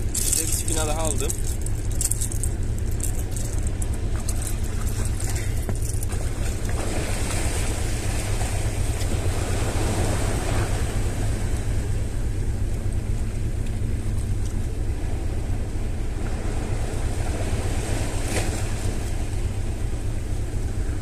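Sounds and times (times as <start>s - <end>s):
sea waves washing at shore: 0.0s - 21.0s
wind rumbling on microphone: 0.0s - 21.0s.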